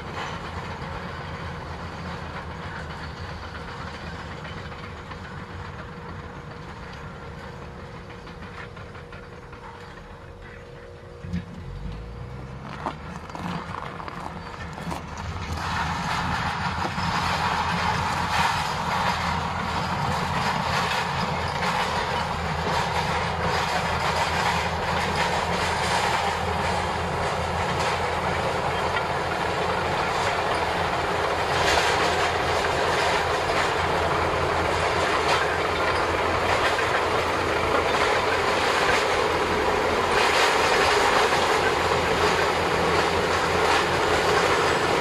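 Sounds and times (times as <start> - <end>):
bulldozer diesel engine under load: 0.0 - 45.0
steel tracks clanking: 0.0 - 45.0.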